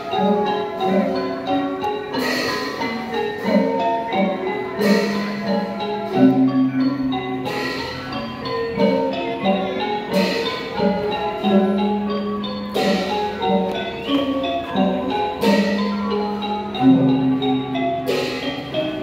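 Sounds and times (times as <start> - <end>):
xylophone and gong ensemble: 0.0 - 19.0.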